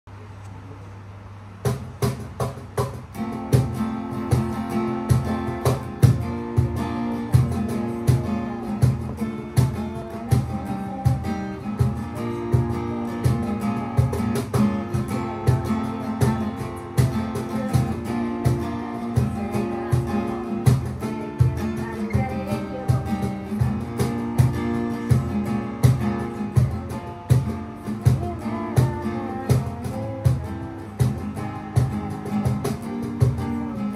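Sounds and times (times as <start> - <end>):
cajon beat: 1.5 - 33.9
acoustic guitar strumming: 1.7 - 33.9.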